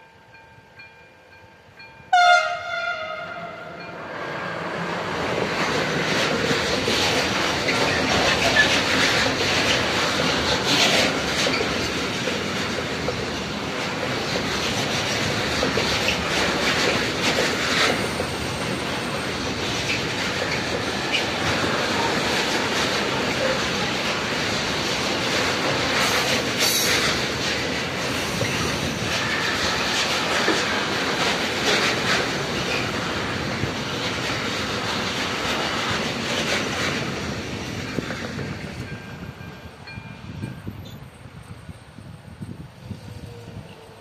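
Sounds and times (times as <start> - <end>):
train wheels on rails: 0.0 - 44.0.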